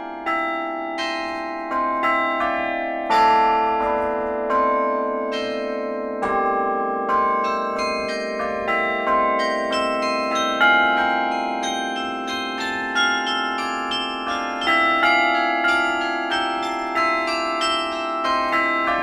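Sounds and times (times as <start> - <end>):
carillon bells melody: 0.0 - 19.0
low bells ringing: 0.2 - 19.0.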